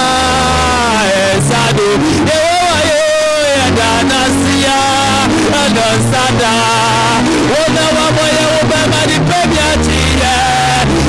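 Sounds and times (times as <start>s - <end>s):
instrumental backing: 0.0s - 11.0s
man singing into a microphone: 0.0s - 11.0s.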